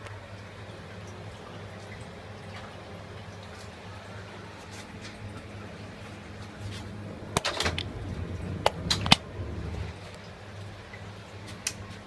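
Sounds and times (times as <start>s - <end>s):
exhaust fan humming: 0.0s - 12.0s.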